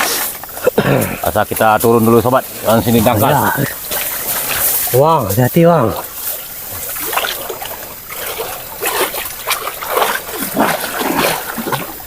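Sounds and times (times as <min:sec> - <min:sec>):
water splashing while wading: 0:00.0 - 0:12.0.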